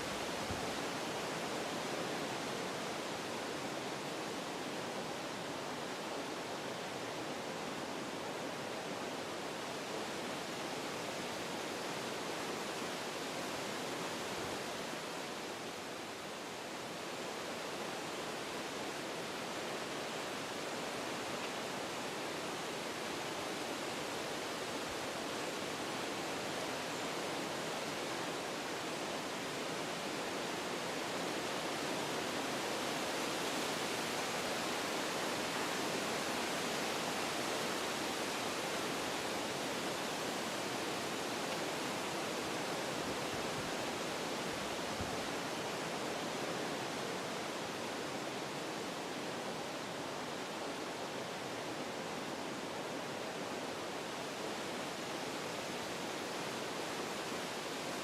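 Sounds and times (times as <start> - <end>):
wind blowing through trees: 0.0 - 58.0.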